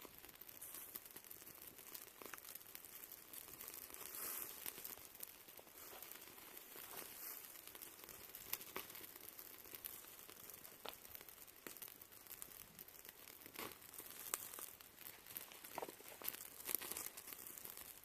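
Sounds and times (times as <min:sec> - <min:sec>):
fire crackling and popping: 0:00.0 - 0:18.0
meat sizzling over fire: 0:00.0 - 0:18.0.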